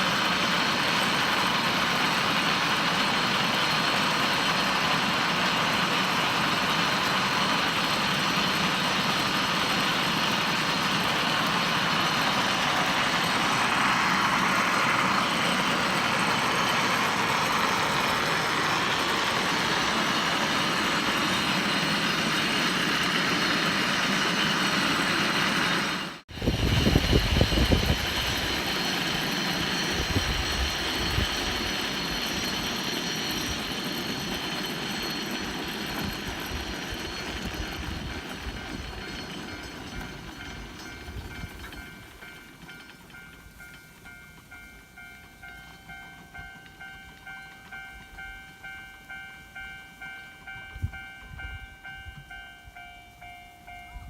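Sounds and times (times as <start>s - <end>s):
cable car rumbling on rails: 0.0s - 54.0s.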